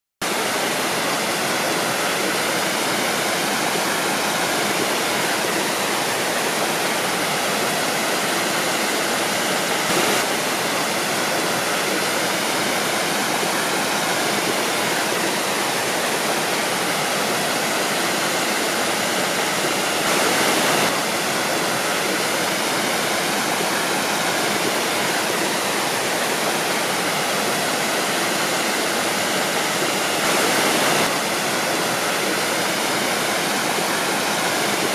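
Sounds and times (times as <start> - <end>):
waterfall rushing: 0.2 - 34.9.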